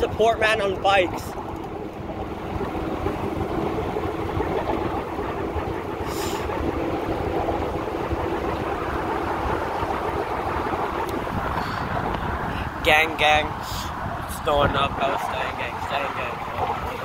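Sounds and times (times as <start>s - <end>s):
bicycle tyres rolling on concrete: 0.0s - 17.0s
wind on microphone: 0.0s - 17.0s.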